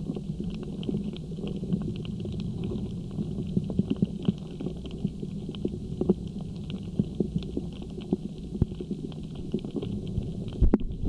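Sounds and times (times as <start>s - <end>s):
underwater clicks and crackles: 0.0s - 11.0s
underwater low rumble: 0.0s - 11.0s.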